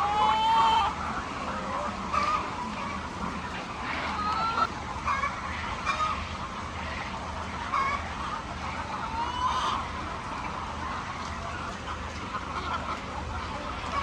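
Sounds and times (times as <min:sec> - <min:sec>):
poultry calling: 0:00.0 - 0:14.0
steady low hum: 0:00.8 - 0:14.0.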